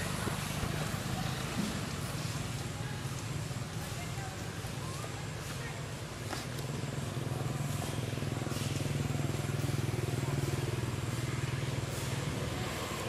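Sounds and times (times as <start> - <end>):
engine humming nearby: 0.0 - 13.0.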